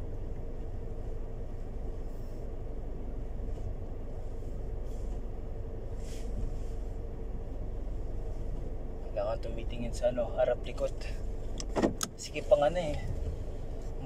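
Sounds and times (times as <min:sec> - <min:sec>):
car engine rumble: 0:00.0 - 0:14.0
steady hum: 0:00.0 - 0:14.0.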